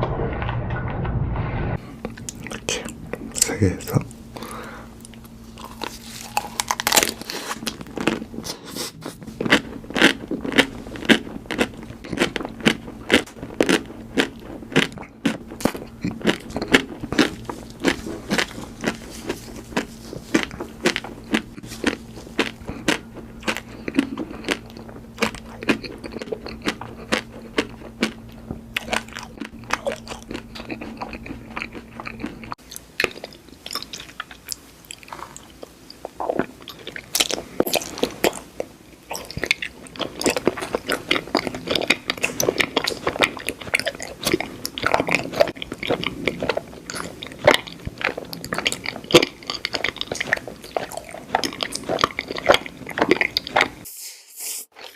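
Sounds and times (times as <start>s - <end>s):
person chewing crunchy food: 1.8s - 54.9s.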